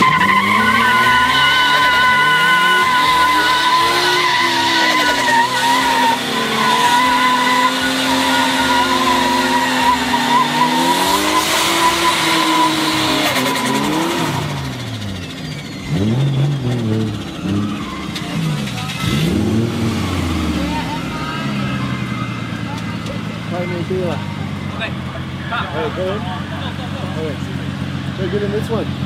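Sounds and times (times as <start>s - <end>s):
tyres squealing: 0.0s - 26.9s
car engines revving: 0.0s - 29.0s.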